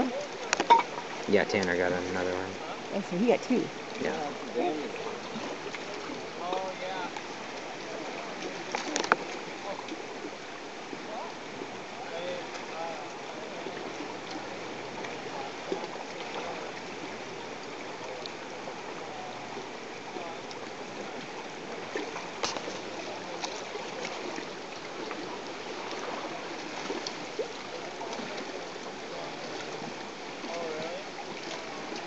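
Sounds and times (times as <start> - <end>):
river current rushing: 0.0 - 32.0.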